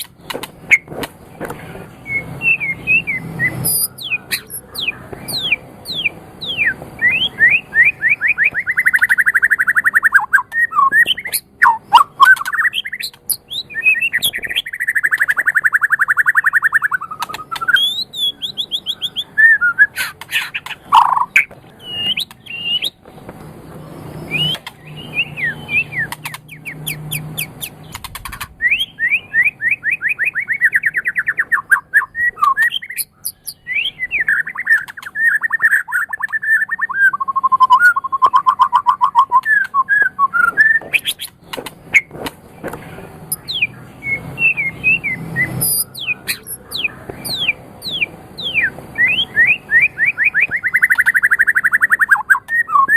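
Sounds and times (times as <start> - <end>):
songbird singing trills and whistles: 2.0 - 52.9.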